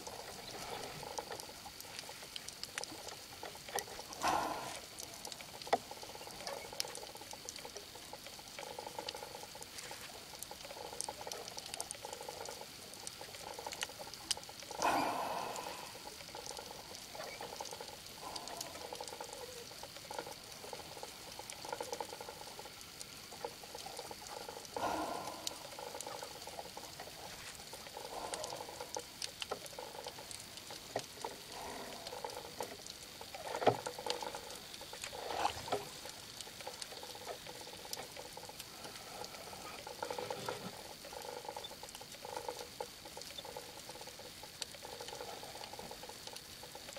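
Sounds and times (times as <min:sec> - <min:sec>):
muffled swishes of water: 0:00.0 - 0:46.9
underwater crackling clicks: 0:00.0 - 0:46.9.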